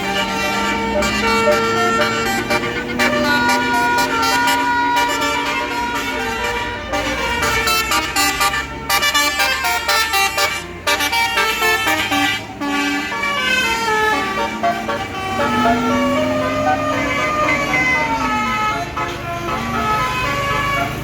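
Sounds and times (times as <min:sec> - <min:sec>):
bus engine humming: 0:00.0 - 0:21.0
bus horn playing melody: 0:00.0 - 0:21.0.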